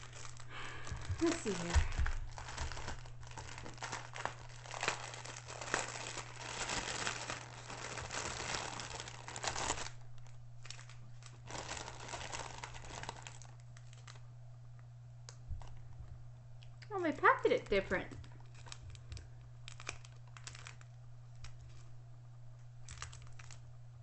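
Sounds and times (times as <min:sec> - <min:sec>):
plastic bag crinkling: 0:00.0 - 0:14.3, 0:17.0 - 0:21.9, 0:22.7 - 0:23.7.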